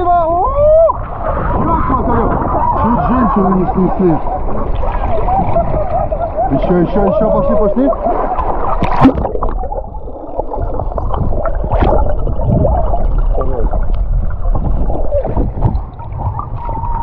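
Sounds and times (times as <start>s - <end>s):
underwater churning and gurgling: 0.0s - 17.0s.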